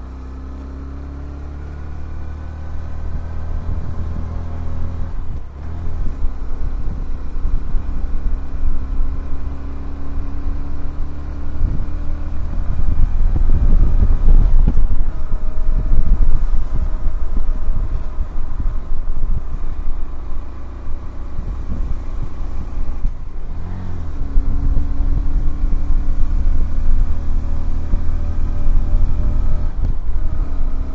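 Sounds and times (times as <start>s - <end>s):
motorcycle engine running: 0.0s - 30.9s
wind buffeting microphone: 2.9s - 30.9s.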